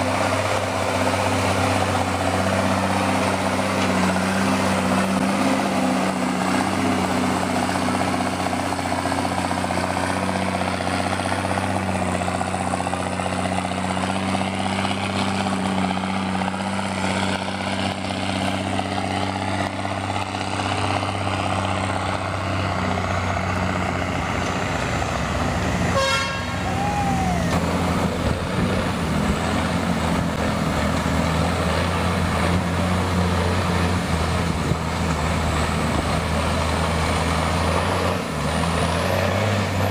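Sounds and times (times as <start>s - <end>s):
truck engine running under load: 0.0s - 39.9s.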